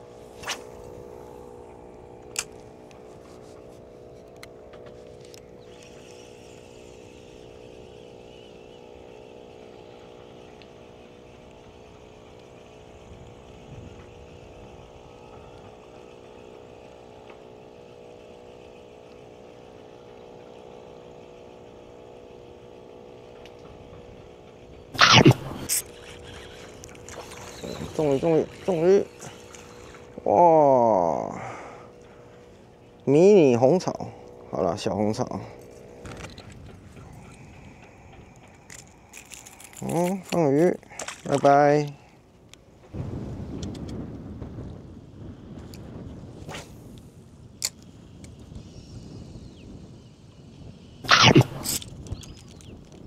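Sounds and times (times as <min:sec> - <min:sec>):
boat engine running: 0:00.0 - 0:43.2.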